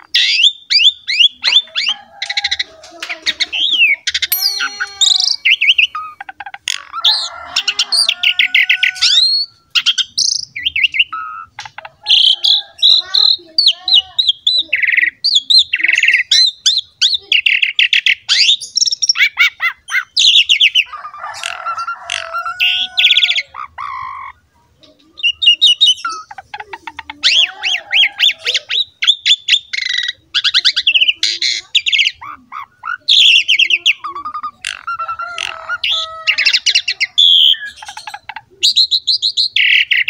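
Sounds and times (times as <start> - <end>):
starling singing: 0.0 - 24.5, 25.1 - 40.0.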